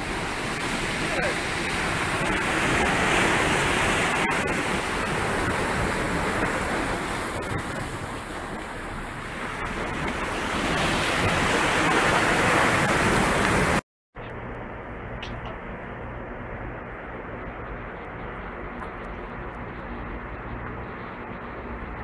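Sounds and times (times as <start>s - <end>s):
sea waves washing in: 0.0s - 13.8s, 15.6s - 22.0s
wind on microphone: 0.0s - 22.0s.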